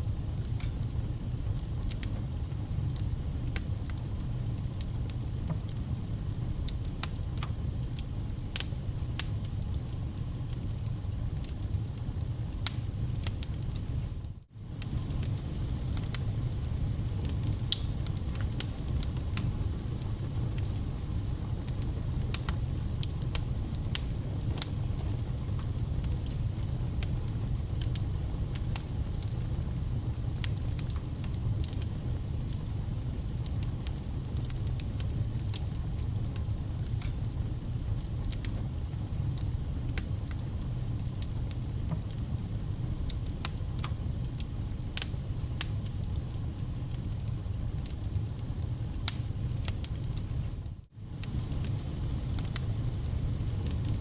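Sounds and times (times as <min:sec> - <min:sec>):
fire flames rumbling: 0:00.0 - 0:54.0
logs crackling and popping: 0:00.3 - 0:50.4, 0:51.1 - 0:54.0.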